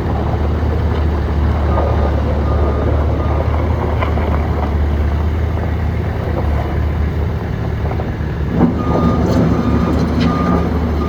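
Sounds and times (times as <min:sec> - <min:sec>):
skid steer loader engine running: 0:00.0 - 0:11.0.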